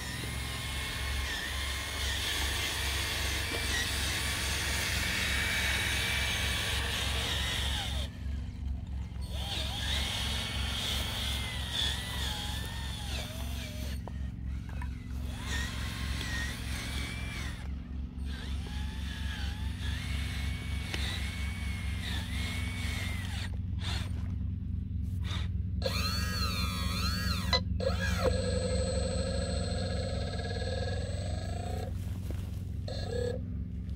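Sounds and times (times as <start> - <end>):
loud wavering whine: 0.0 - 33.9
small electric motors whining: 0.0 - 33.9.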